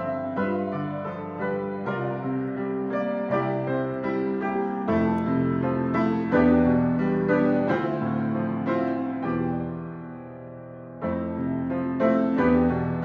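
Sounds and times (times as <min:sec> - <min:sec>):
piano melody over chords: 0:00.0 - 0:13.0.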